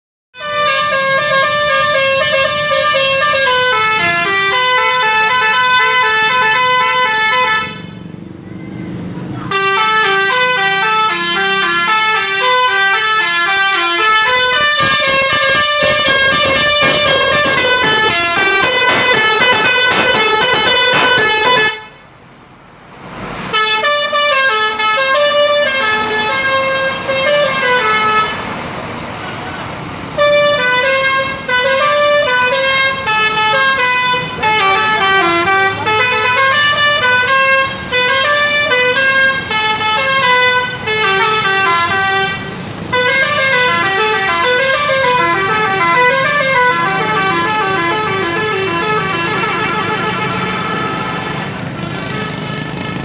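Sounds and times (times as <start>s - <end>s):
multi-tone bus air horn tunes: 0.4s - 8.1s, 9.5s - 22.1s, 23.4s - 28.6s, 30.0s - 53.0s.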